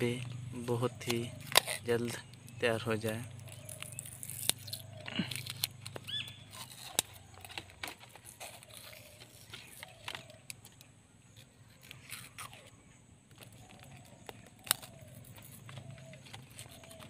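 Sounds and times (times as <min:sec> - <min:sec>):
plastic tape crinkling: 0:00.0 - 0:17.0.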